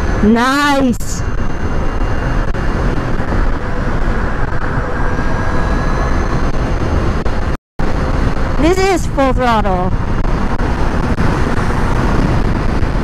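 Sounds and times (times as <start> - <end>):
faint high electric whine: 0.0 - 13.0
wind and road rush: 0.0 - 13.0
wind buffeting microphone: 0.0 - 13.0.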